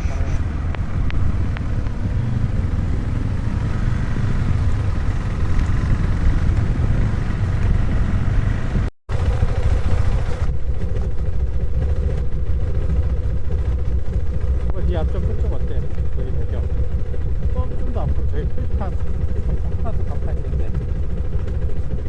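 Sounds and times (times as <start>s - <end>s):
motorcycle engine rumble: 0.0s - 22.0s
wind: 0.0s - 22.0s.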